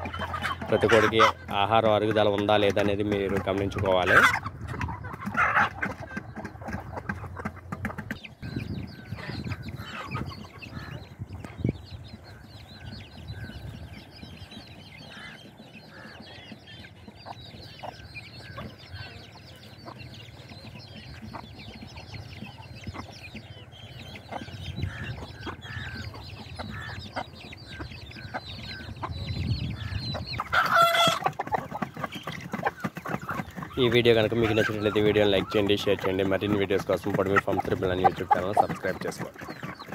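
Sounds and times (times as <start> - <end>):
chicks peeping: 0.0 - 39.9
hen clucking softly: 0.0 - 39.9.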